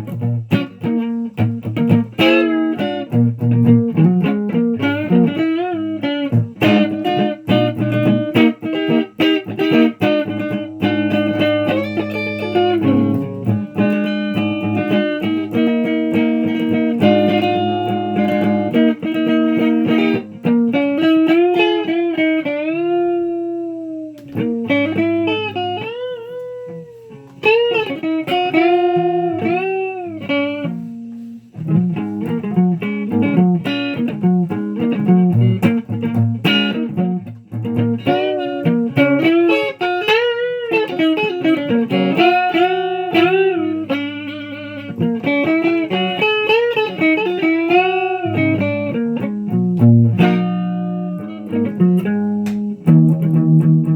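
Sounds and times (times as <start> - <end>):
electric guitar lead lines: 0.0 - 53.9.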